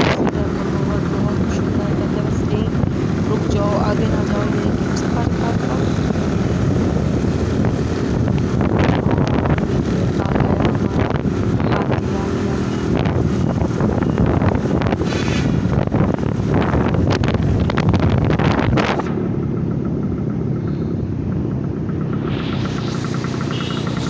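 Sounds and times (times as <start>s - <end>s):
road noise: 0.0s - 24.0s
vehicle engine: 0.0s - 24.0s
wind rumble on microphone: 0.0s - 24.0s.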